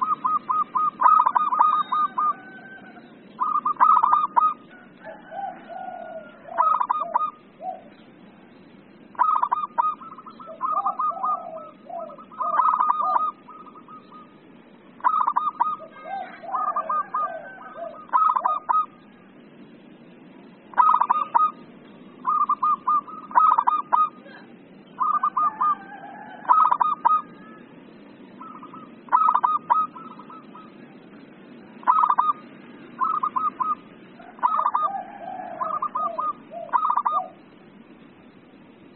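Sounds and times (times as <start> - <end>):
dove cooing: 0.0 - 8.0, 9.0 - 19.5, 20.7 - 27.6, 28.2 - 37.6.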